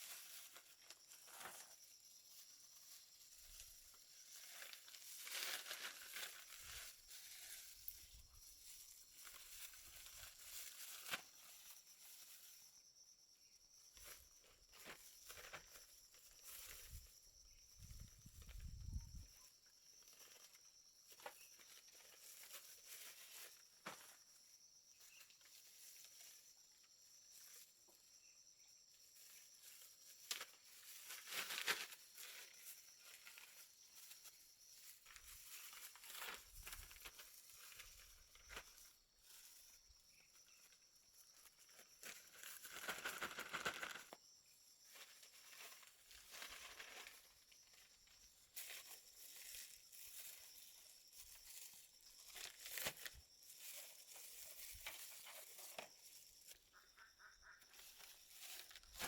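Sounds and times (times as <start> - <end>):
faint rustling and crinkling: 0.0 - 13.1, 13.7 - 59.0.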